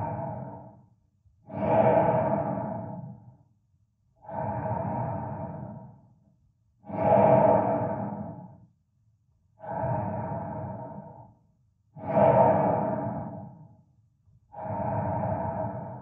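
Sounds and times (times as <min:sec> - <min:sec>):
person breathing heavily: 0:00.0 - 0:03.4, 0:04.2 - 0:06.2, 0:06.8 - 0:08.6, 0:09.6 - 0:13.8, 0:14.5 - 0:16.0.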